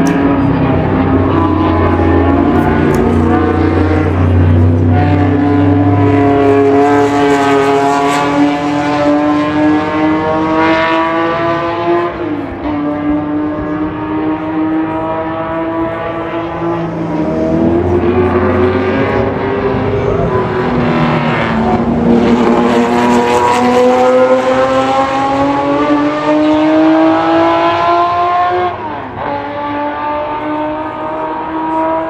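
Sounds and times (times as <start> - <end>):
race car engines at high revs: 0.0 - 32.0.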